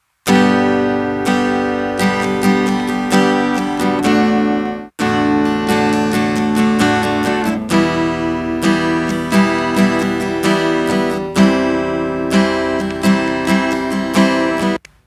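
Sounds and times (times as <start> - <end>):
acoustic guitars strummed and picked: 0.3 - 14.8.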